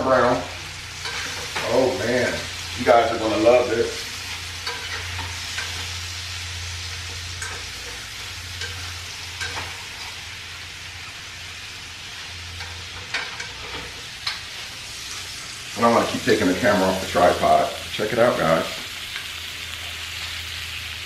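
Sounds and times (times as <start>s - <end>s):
meat and onions sizzling: 0.0s - 21.0s.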